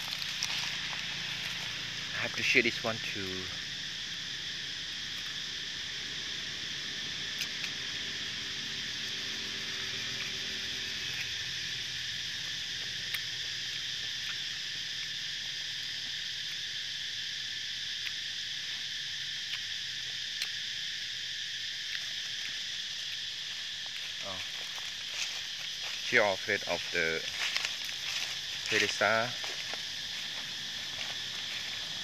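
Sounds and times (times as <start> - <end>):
insects buzzing: 0.0 - 32.0.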